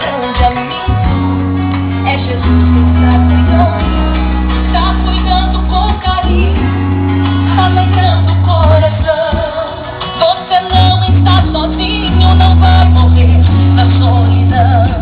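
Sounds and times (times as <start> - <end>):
song with vocals and guitar: 0.0 - 15.0.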